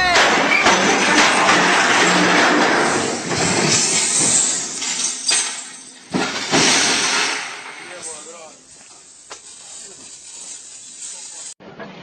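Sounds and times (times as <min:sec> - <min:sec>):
truck crashing: 0:00.0 - 0:11.6
glass and metal clinking: 0:00.1 - 0:11.6.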